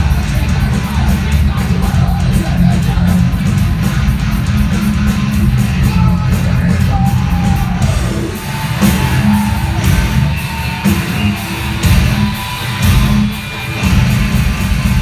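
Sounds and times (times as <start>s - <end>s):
distorted electric guitars and bass: 0.0s - 15.0s
pounding drums: 0.0s - 15.0s.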